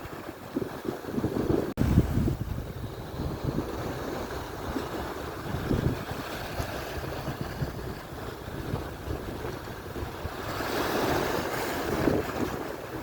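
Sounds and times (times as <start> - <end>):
surf breaking on shore: 0.0 - 13.0
wind buffeting microphone: 0.0 - 13.0.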